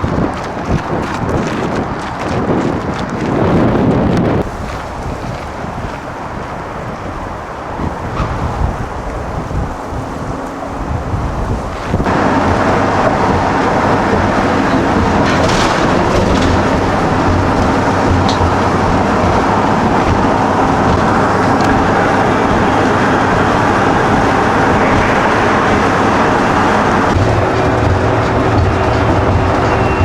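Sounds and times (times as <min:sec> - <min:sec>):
vehicle rumbling in motion: 0:00.0 - 0:30.0.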